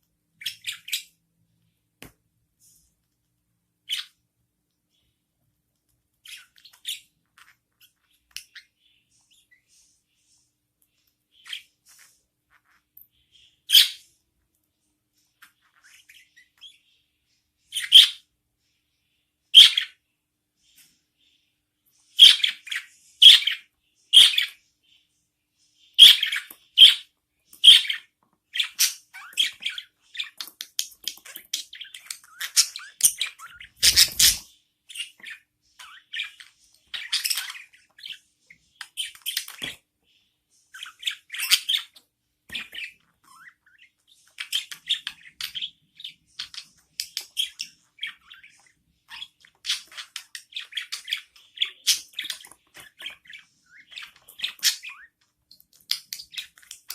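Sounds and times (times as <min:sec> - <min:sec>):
budgerigars chirping and squawking: 0:00.3 - 0:01.2, 0:03.8 - 0:04.2, 0:06.1 - 0:14.2, 0:15.2 - 0:18.4, 0:19.5 - 0:25.0, 0:25.7 - 0:56.9.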